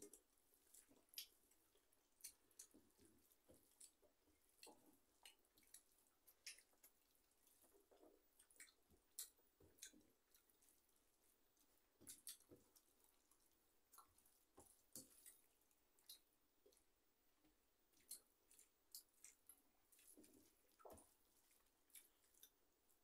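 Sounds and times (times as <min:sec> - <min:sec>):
chewing: 0:00.0 - 0:23.0.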